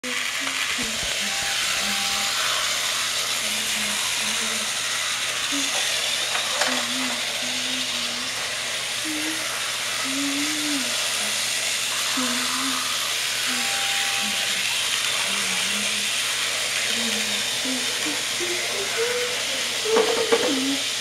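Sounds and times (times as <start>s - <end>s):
toy train motors whirring: 0.0s - 21.0s.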